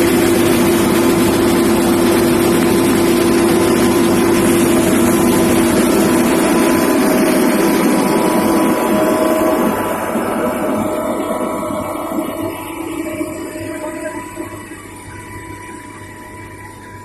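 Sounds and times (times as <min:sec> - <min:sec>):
machinery engine drone: 0:00.0 - 0:17.0.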